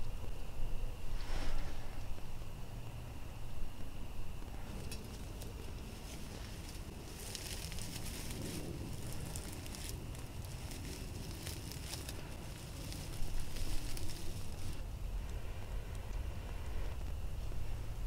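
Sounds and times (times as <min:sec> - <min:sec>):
dry grass rustling and crackling: 0:00.0 - 0:18.0.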